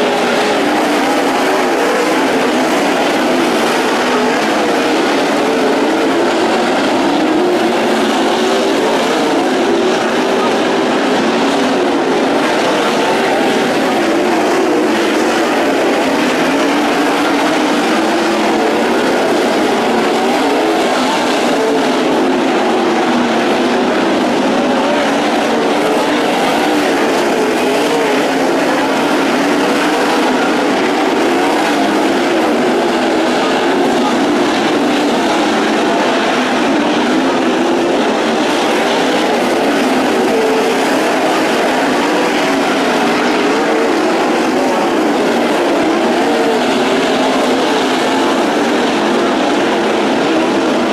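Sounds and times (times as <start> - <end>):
race car engines at high revs: 0.0 - 50.9.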